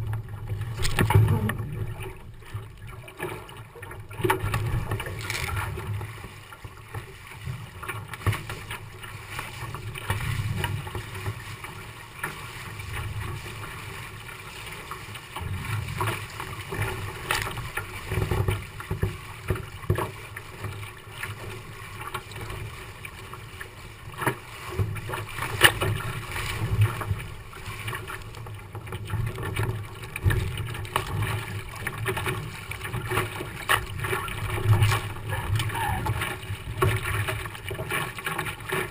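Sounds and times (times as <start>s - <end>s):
water rushing along hull: 0.0s - 38.9s.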